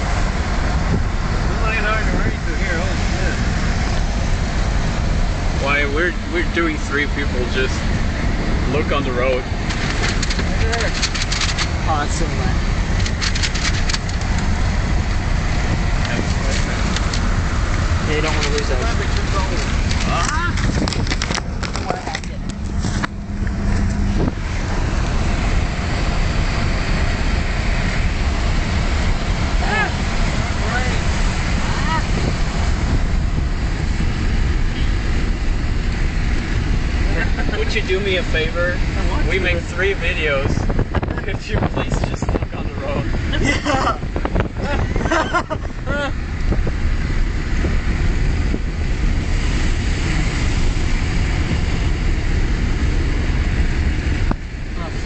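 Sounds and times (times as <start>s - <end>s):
low rumble on microphone: 0.0s - 55.0s
tyre and road noise: 0.0s - 55.0s
wind: 0.0s - 55.0s.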